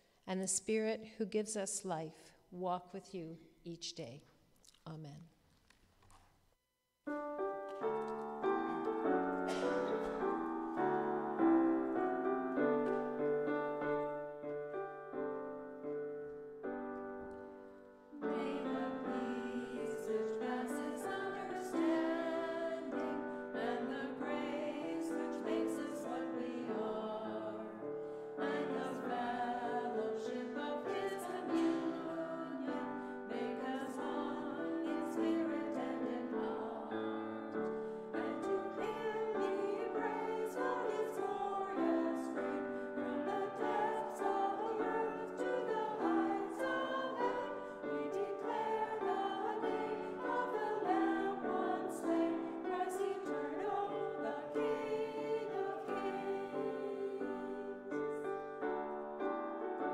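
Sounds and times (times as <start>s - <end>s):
piano playing: 7.1s - 59.9s.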